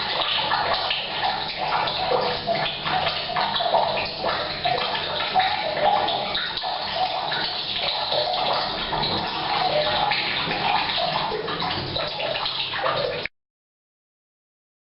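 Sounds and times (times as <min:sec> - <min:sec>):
tap water pouring into tank: 0:00.0 - 0:13.3.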